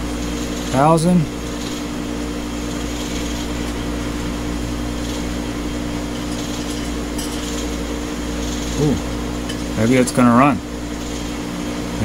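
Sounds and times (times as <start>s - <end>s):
blowers and heater whirring: 0.0s - 12.0s.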